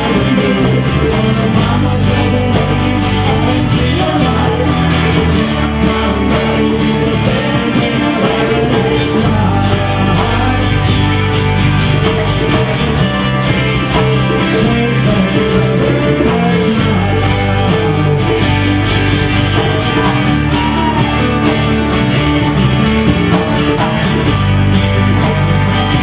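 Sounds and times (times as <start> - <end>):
electric guitar: 0.0 - 26.0
rock band playing: 0.0 - 26.0.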